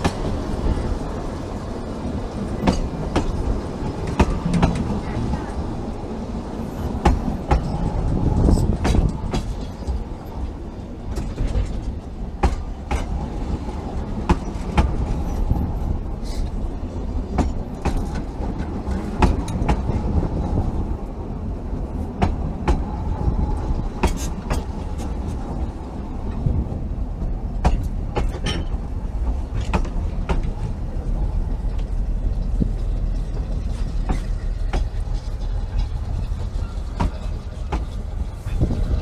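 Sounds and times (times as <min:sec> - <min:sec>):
train wheels rumbling on track: 0:00.0 - 0:39.0.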